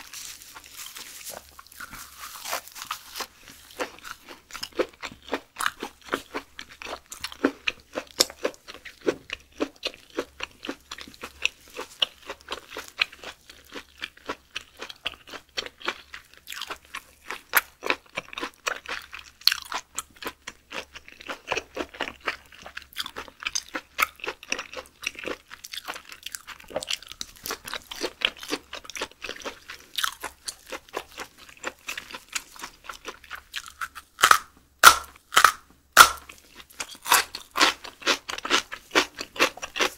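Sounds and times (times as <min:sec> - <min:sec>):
chewing raw meat: 0:00.0 - 0:39.9.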